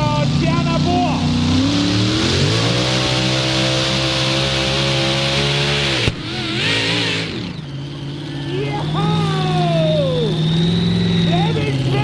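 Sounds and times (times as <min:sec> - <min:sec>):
engine cutting off with knock: 0:00.0 - 0:12.0
tractor engine at high revs: 0:00.0 - 0:12.0.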